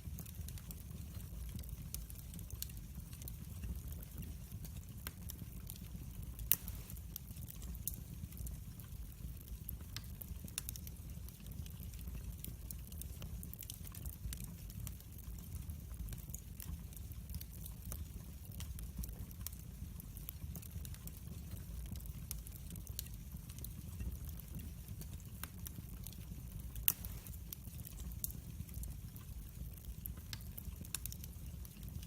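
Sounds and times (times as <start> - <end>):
fire crackling and popping: 0.0 - 32.0
fire rumble: 0.0 - 32.0.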